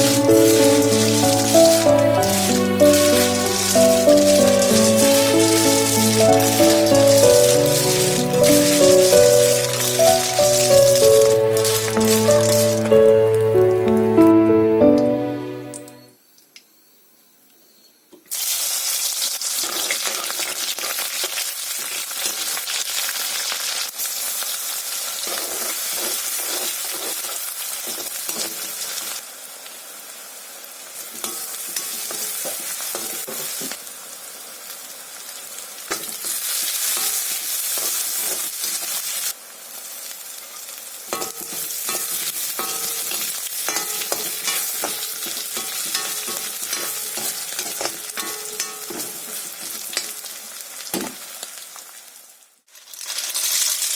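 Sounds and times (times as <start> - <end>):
food sizzling in a pan: 0.0 - 13.9, 18.2 - 53.9.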